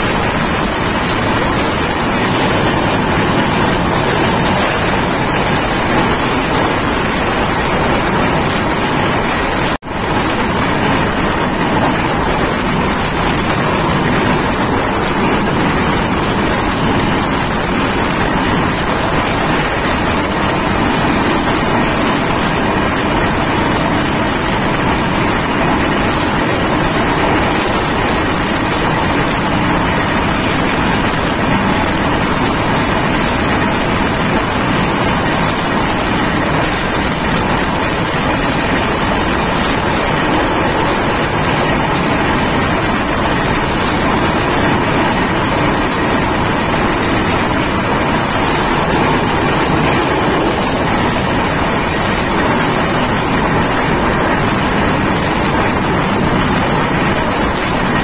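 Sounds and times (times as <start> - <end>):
air rushing past train: 0.0 - 58.0
train wheels rumbling on rails: 0.0 - 58.0.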